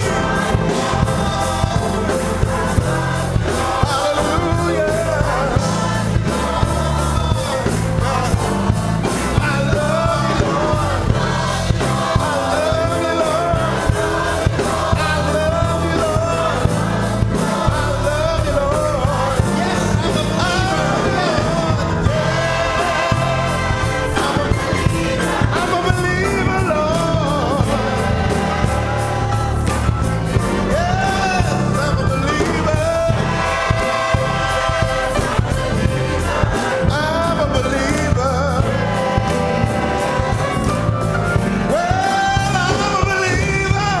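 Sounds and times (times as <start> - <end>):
gospel choir singing: 0.0 - 44.0
live band with drums and bass: 0.0 - 44.0.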